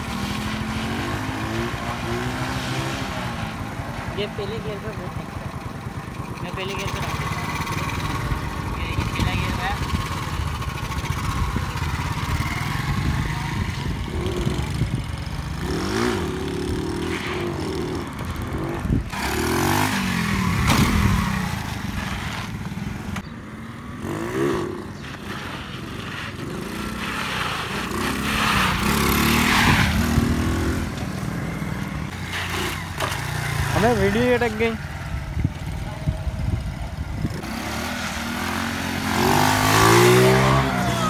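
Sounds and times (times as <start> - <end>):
motorcycle engines revving: 0.0 - 41.0.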